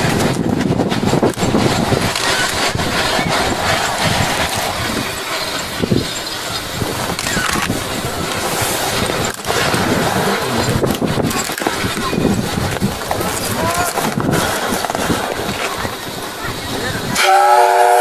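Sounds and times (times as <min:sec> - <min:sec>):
steam locomotive exhaust: 0:00.0 - 0:18.0.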